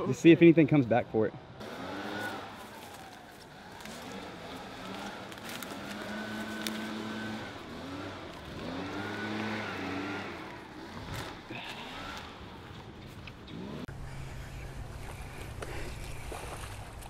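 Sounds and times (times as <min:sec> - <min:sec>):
motor engine running: 0:01.6 - 0:17.0.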